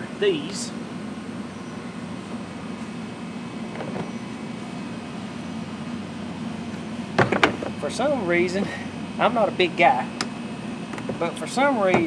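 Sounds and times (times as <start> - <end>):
low mechanical hum: 0.0 - 12.0
outdoor background noise: 0.0 - 12.0.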